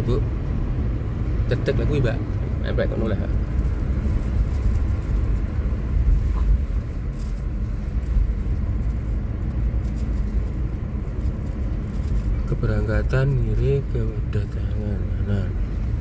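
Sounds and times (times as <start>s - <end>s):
car driving interior rumble: 0.0s - 16.0s.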